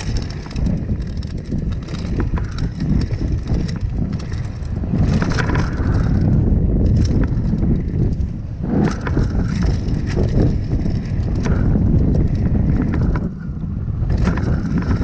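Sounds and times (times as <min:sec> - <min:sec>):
bike clattering over bumps: 0:00.0 - 0:15.0
bike tyres crunching on gravel: 0:00.0 - 0:15.0
low rumble: 0:00.0 - 0:15.0.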